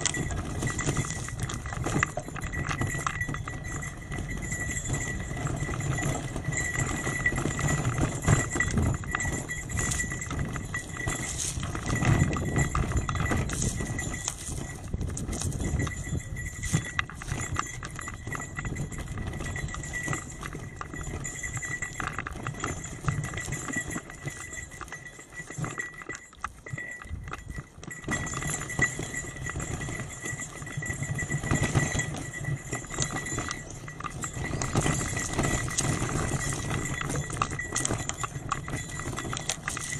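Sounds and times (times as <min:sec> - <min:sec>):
wind rumble on microphone: 0:00.0 - 0:25.6, 0:26.6 - 0:39.9
bike rattling: 0:00.0 - 0:39.9.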